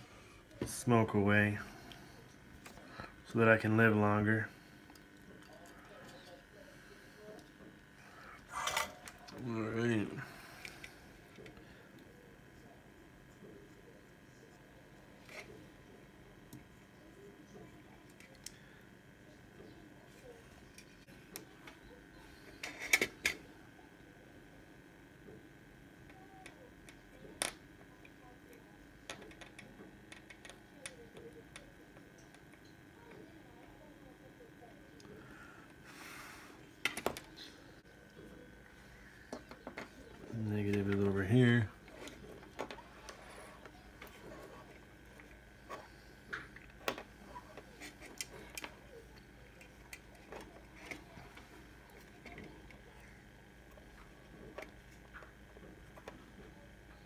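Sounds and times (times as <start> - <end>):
small fan whining: 0.0 - 57.0.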